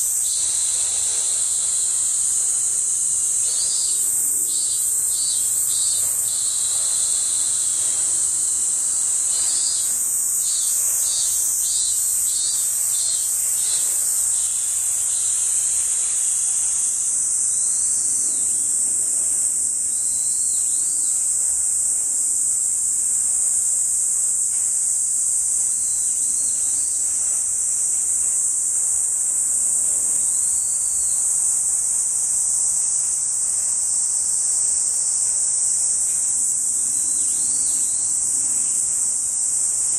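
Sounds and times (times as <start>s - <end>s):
pulsing insect call: 0.0s - 21.4s, 25.3s - 39.9s
insects droning: 0.0s - 39.9s.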